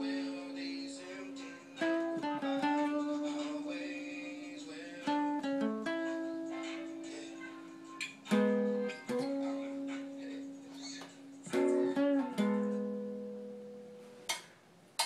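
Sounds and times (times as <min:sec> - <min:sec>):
acoustic guitar strumming: 0:00.0 - 0:14.3.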